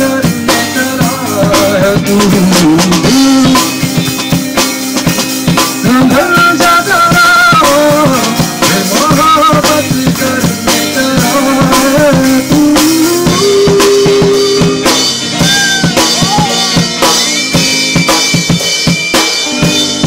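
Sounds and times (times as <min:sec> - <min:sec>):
drum kit playing: 0:00.0 - 0:20.0
electric guitar melody: 0:00.0 - 0:20.0.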